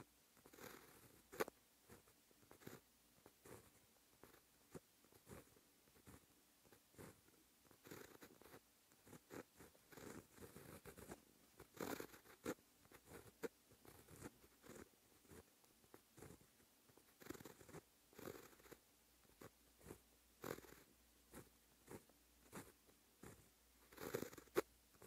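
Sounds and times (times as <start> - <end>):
pen scratching on paper: 0.4 - 25.0.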